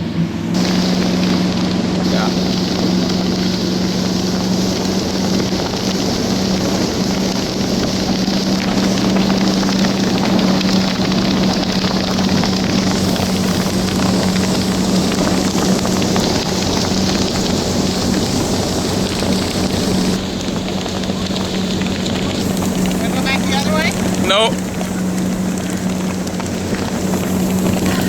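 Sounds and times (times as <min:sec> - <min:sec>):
motorboat engine humming: 0:00.0 - 0:28.0
wind and water rushing: 0:00.0 - 0:28.0.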